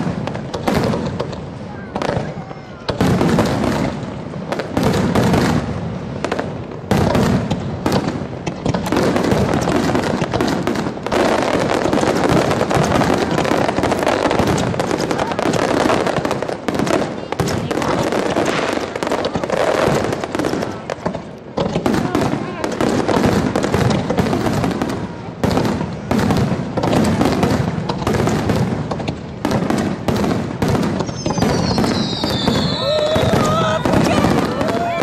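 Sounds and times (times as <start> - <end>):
fireworks bursts and crackling: 0.0 - 35.0.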